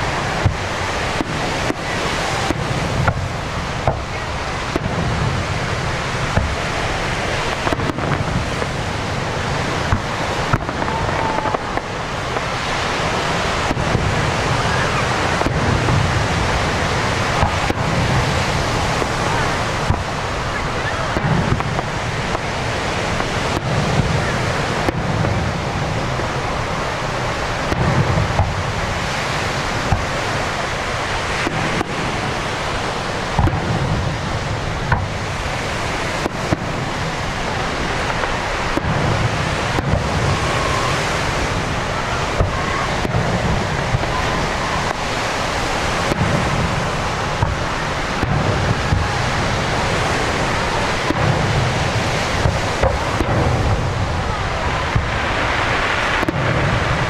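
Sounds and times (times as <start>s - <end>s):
fireworks booming and crackling: 0.0s - 57.0s
surf: 0.0s - 57.0s
wind: 0.0s - 57.0s.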